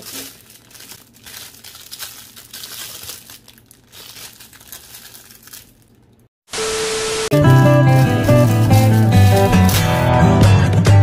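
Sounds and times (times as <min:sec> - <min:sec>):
plastic bag crinkling: 0:00.0 - 0:06.3, 0:07.4 - 0:10.0.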